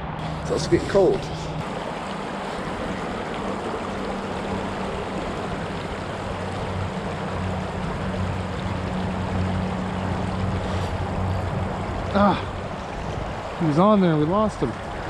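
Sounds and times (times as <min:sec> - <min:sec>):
creek water rushing: 0:00.0 - 0:15.0
low steady hum: 0:00.0 - 0:15.0.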